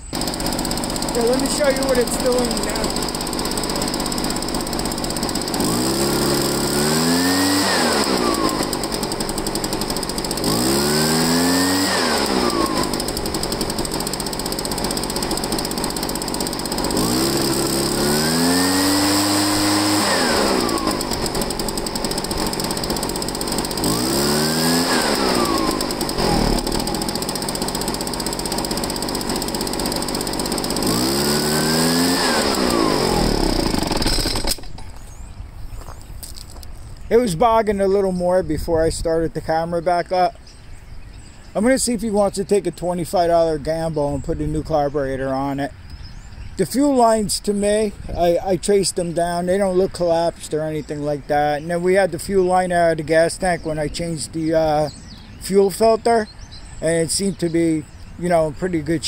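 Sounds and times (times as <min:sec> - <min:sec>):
leaf blower engine revving: 0:00.0 - 0:40.3, 0:41.6 - 0:59.0.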